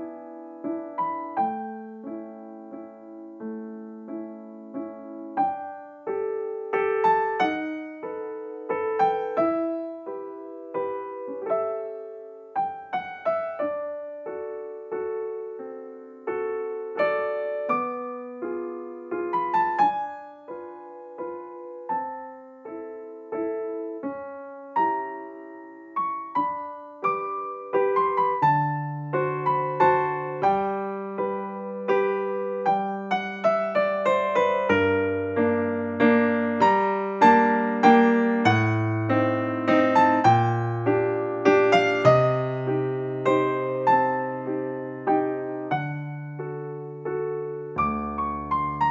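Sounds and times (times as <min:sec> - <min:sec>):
gentle piano melody: 0:00.0 - 0:48.9
piano bass line: 0:00.0 - 0:48.9.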